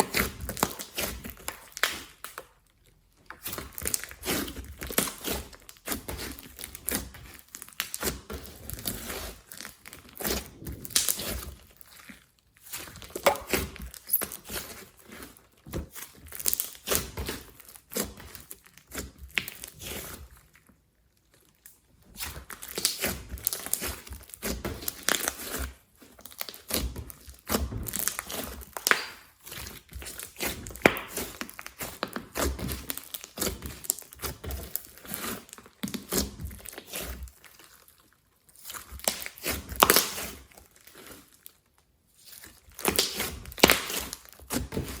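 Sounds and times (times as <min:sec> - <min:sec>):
hands squishing slime: 0:00.0 - 0:20.6, 0:21.6 - 0:41.5, 0:42.1 - 0:45.0.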